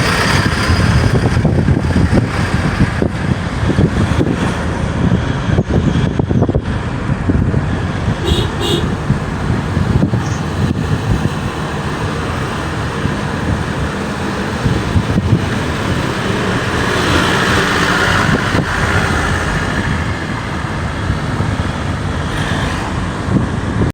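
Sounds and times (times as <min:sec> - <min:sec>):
vehicle road and wind noise: 0:00.0 - 0:23.9.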